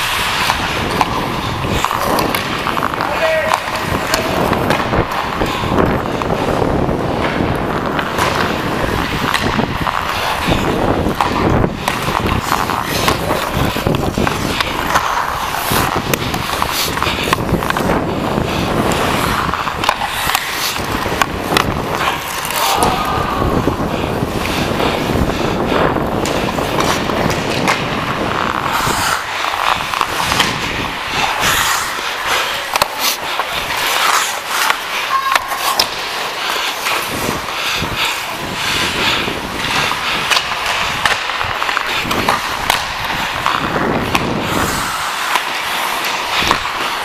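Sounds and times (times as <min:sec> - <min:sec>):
hockey stick clicking puck: 0:00.0 - 0:47.0
skate blades scraping on ice: 0:00.0 - 0:47.0.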